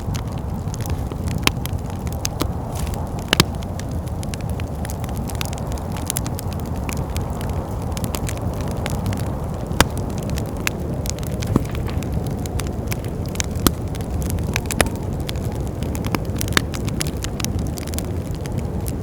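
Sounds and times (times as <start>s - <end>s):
low rumble of wind: 0.0s - 19.0s
sharp pops from fire: 0.0s - 19.0s
wood fire crackling: 0.0s - 19.0s.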